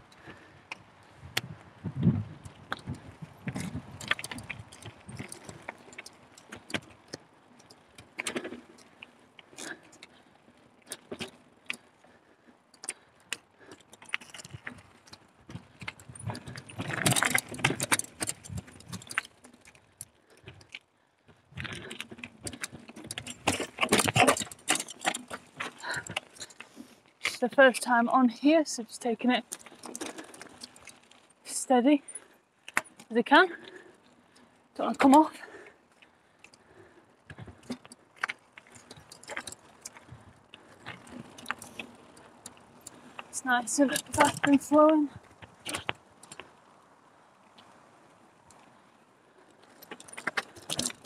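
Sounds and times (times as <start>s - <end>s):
mountain bike rattling on rocks: 0.0s - 51.0s.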